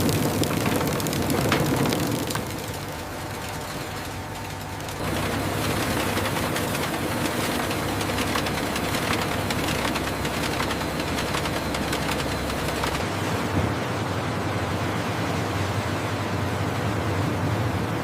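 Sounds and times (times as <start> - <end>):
factory machinery hum and rattle: 0.0 - 18.0.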